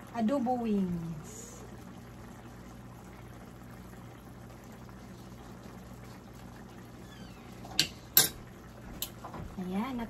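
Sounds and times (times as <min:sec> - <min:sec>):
faint hum: 0:00.0 - 0:10.0
food simmering bubbling hiss: 0:00.0 - 0:10.0.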